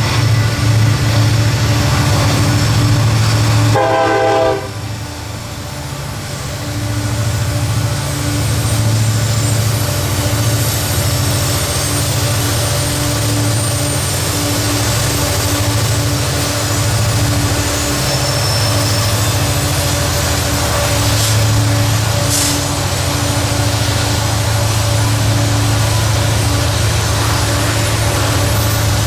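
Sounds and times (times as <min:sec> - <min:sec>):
diesel locomotive engines rumbling: 0:00.0 - 0:29.0
train horn blast: 0:00.0 - 0:29.0.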